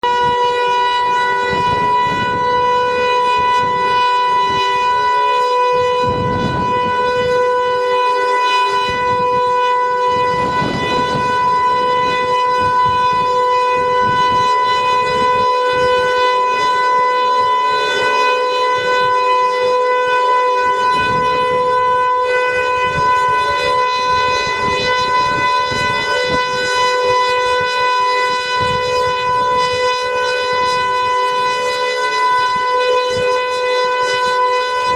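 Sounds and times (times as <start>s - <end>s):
warning siren steady tone: 0.0s - 34.9s.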